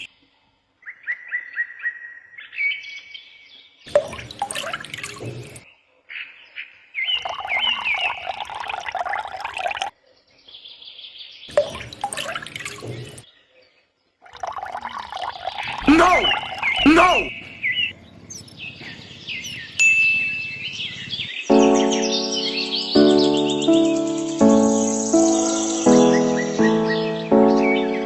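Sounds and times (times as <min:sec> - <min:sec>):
bird-like chirping: 0:03.9 - 0:09.9, 0:11.5 - 0:28.0.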